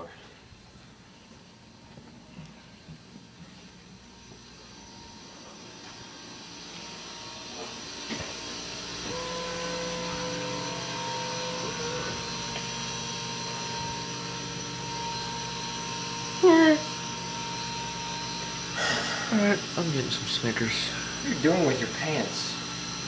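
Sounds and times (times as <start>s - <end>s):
machine hum and hiss: 0.3s - 23.0s
steady machine whine: 0.6s - 23.0s.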